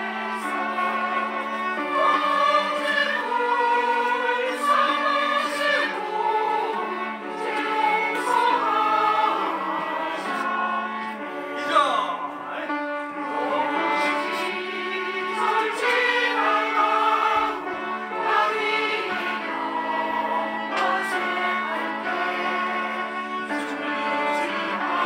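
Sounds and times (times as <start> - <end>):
choir singing: 0.0 - 25.0.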